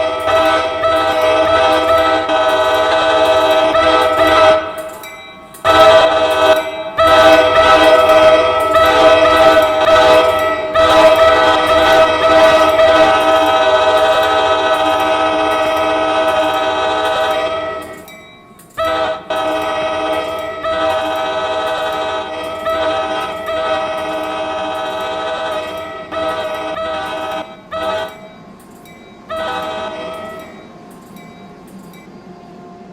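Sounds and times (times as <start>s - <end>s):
locomotive air horn blasts: 0.0s - 5.0s, 5.6s - 18.1s, 18.7s - 28.4s, 29.3s - 30.5s.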